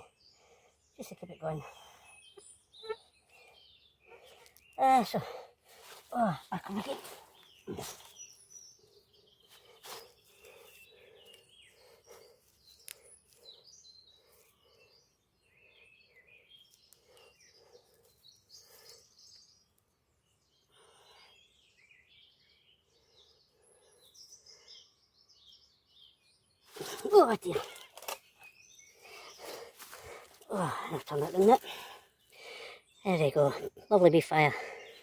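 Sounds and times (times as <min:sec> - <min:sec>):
faint birdsong: 0:00.0 - 0:35.0.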